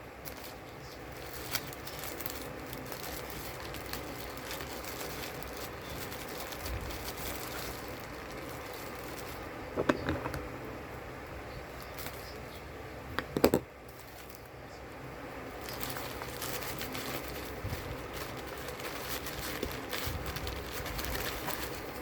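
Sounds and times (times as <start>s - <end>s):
plastic packaging crinkling: 0.0s - 10.0s, 11.7s - 12.6s, 13.8s - 14.6s, 15.4s - 22.0s.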